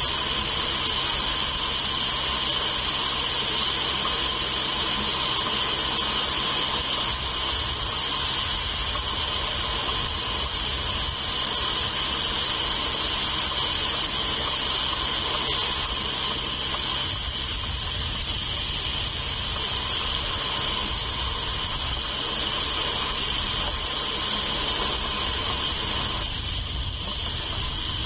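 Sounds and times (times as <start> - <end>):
steady hiss with high-pitched tone: 0.0 - 28.0.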